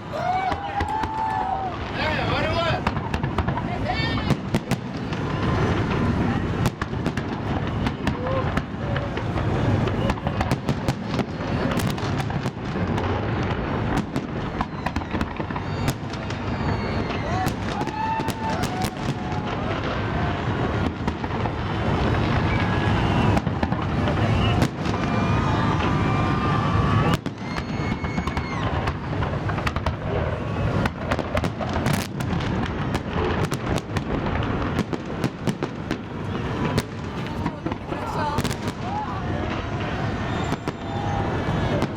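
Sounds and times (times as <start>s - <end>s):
fireworks booming and cracking: 0.0s - 41.9s.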